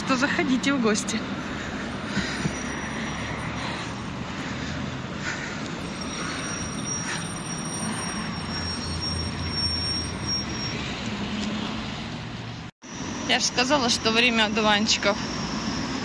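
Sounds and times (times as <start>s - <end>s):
road vehicles rumbling: 0.0s - 16.0s.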